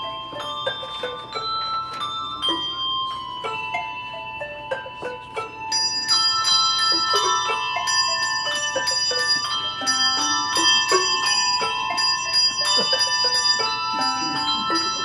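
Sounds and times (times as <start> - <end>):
handbell choir playing: 0.0 - 15.0.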